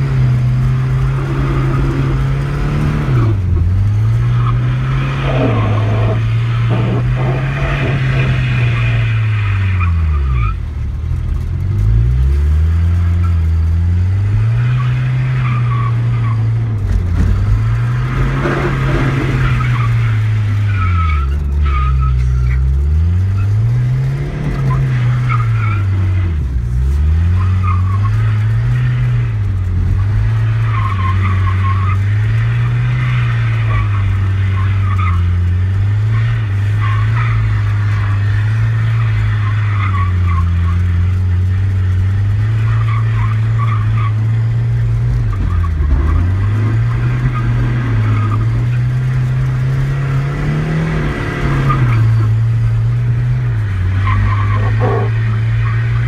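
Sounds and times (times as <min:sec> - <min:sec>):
diesel engine revving: 0:00.0 - 0:56.0
tyres skidding and squealing: 0:00.0 - 0:56.0.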